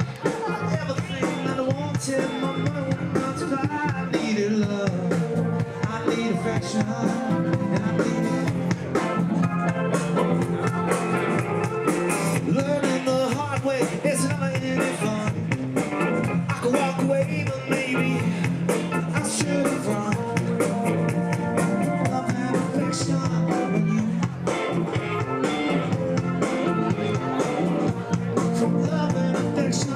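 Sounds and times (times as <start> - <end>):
rock band playing live: 0.0 - 29.9.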